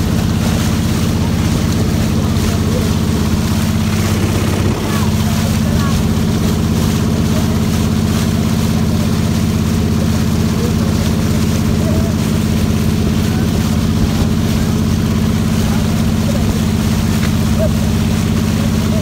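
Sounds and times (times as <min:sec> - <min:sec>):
boat engine running steadily: 0:00.0 - 0:19.0.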